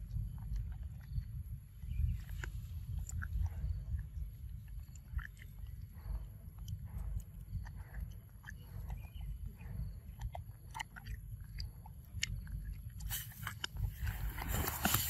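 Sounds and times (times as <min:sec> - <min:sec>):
monkey chewing fruit: 0:00.0 - 0:15.0.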